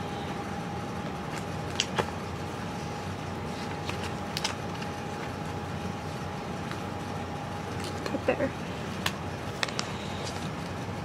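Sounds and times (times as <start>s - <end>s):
room hum: 0.0s - 11.0s.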